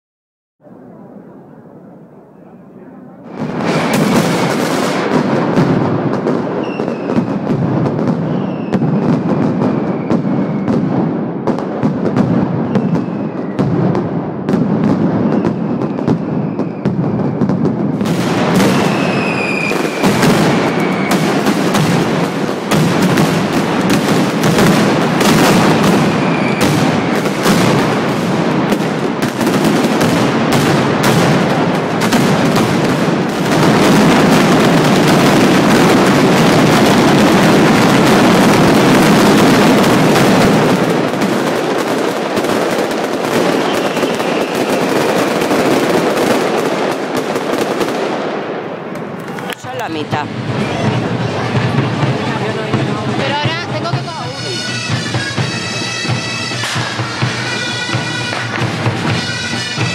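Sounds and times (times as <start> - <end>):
whistling rockets falling: 3.3 - 52.6, 53.2 - 59.9
rapid firecracker rattle: 3.3 - 59.9.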